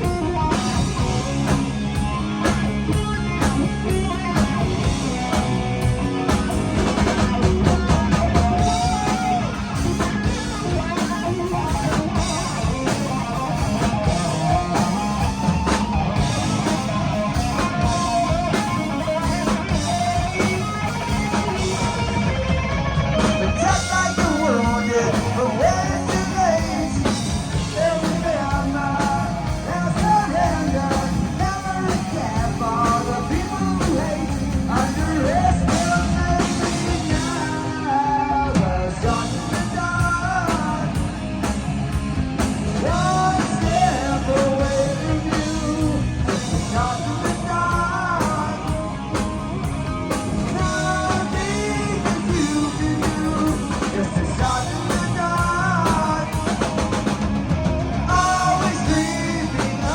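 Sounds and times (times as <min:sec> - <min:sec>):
hard rock band playing live: 0:00.0 - 0:59.9
pitch-bending lead melody: 0:00.0 - 0:59.9.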